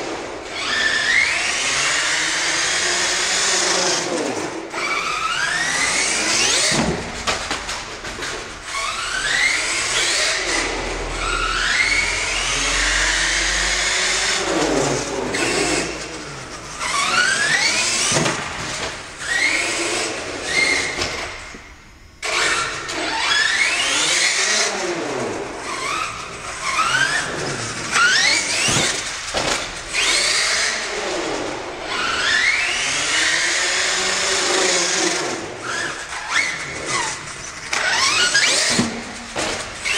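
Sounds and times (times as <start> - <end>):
small engine revving: 0.0 - 21.6, 22.2 - 39.9.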